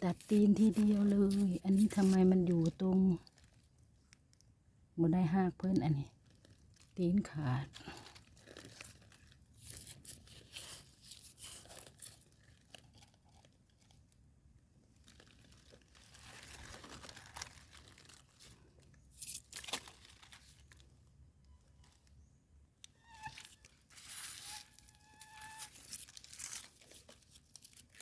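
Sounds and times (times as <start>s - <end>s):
mushrooms picked in dry leaves: 0.0s - 28.0s.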